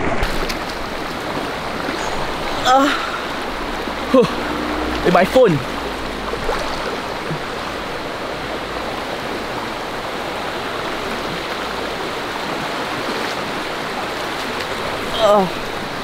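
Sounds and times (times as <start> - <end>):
river rushing over stones: 0.0 - 16.0.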